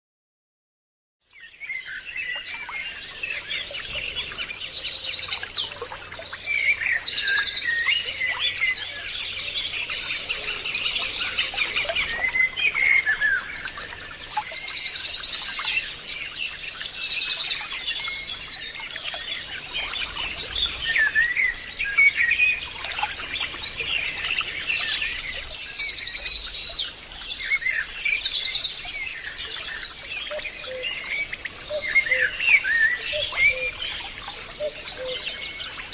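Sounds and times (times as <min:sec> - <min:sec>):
songbirds chirping and singing: 0:01.3 - 0:35.9.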